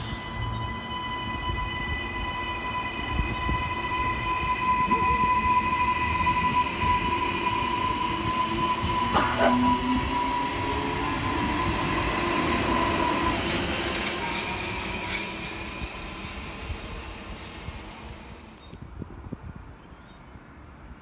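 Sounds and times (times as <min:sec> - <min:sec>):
train rumbling past: 0:00.0 - 0:18.6.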